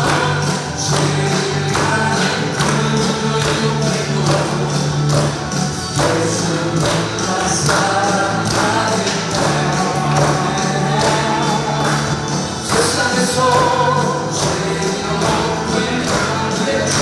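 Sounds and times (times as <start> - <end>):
women's choir singing a hymn: 0.0 - 4.9, 6.0 - 17.0
instrumental backing with steady beat: 0.0 - 17.0.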